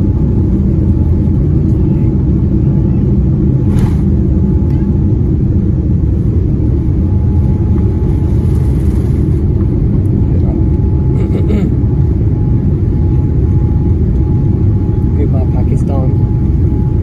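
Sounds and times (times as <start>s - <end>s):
jet engine cabin roar: 0.0s - 17.0s.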